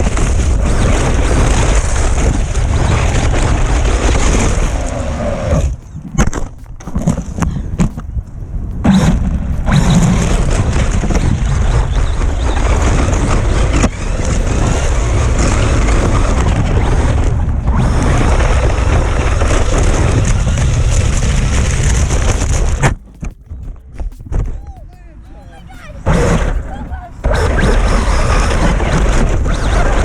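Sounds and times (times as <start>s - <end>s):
tyres churning snow: 0.0s - 6.0s, 8.4s - 22.9s, 25.2s - 30.0s
wind buffeting microphone: 0.0s - 30.0s.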